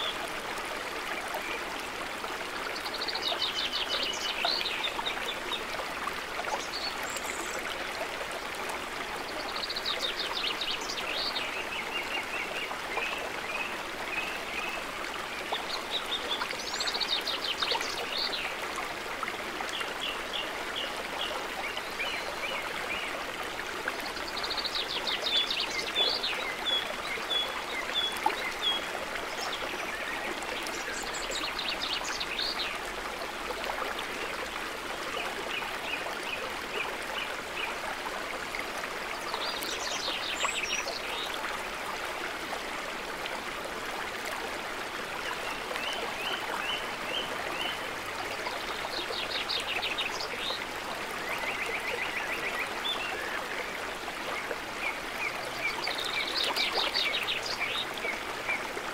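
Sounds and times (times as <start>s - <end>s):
stream running over rocks: 0.0s - 58.9s.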